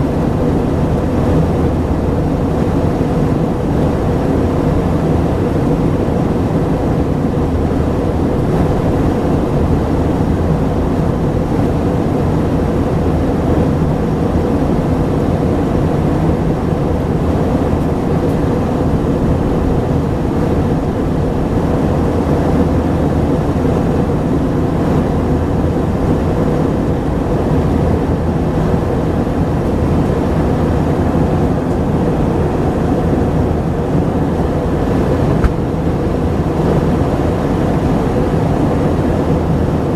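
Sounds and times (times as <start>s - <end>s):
constant hum: 0.0s - 39.9s
jet engine cabin drone: 0.0s - 39.9s.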